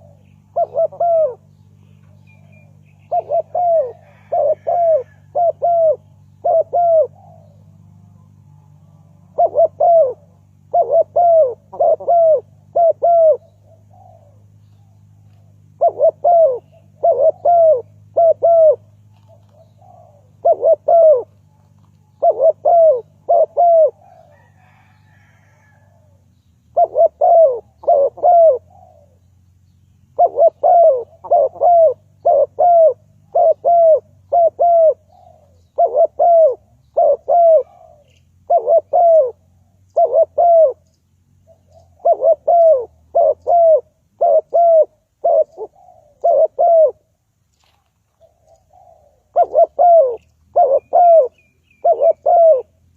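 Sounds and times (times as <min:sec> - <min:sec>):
dove cooing: 0:00.0 - 0:29.4, 0:30.1 - 0:52.9
faint low hum: 0:00.0 - 0:52.9.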